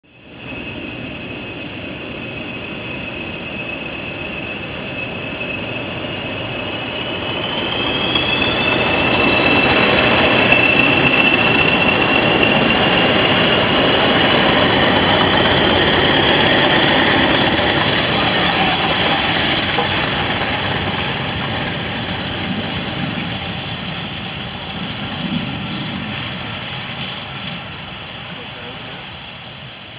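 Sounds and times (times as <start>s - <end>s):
train passing rumble: 0.2s - 29.9s
high steady whine: 0.4s - 29.9s
higher whine: 0.4s - 29.9s.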